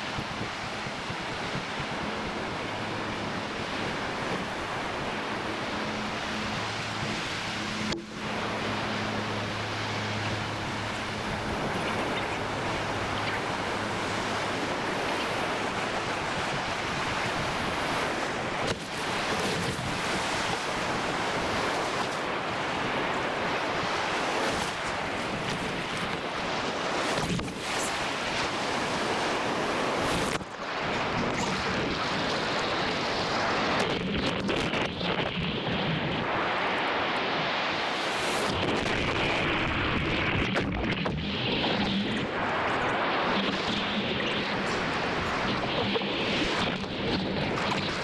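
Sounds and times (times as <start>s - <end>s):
ocean surf breaking: 0.0s - 34.0s, 34.6s - 48.0s
wind buffeting microphone: 0.0s - 48.0s.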